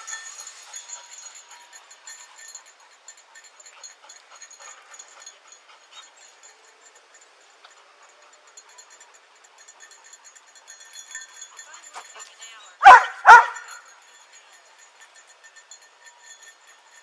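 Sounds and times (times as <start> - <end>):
quiet dog sounds: 0.1 - 14.0.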